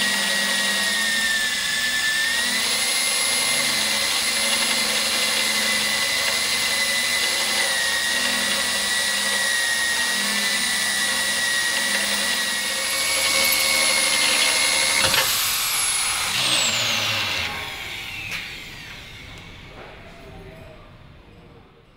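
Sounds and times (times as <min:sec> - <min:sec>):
drill whining cutting steel: 0:00.0 - 0:19.8.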